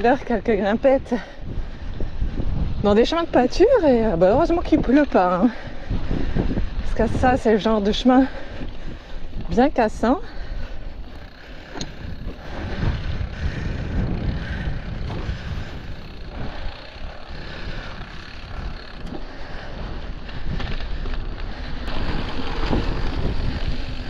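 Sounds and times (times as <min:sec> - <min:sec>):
bike rattling over bumps: 0:00.0 - 0:24.0
wind buffeting microphone: 0:00.0 - 0:24.0.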